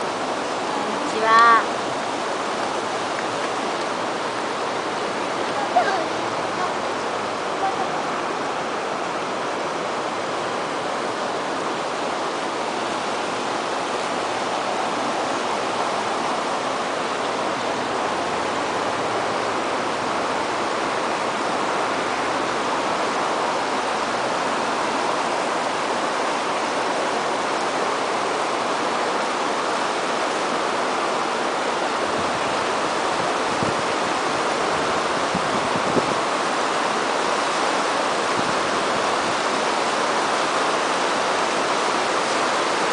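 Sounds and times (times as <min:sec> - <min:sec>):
river rapids rushing: 0:00.0 - 0:42.9.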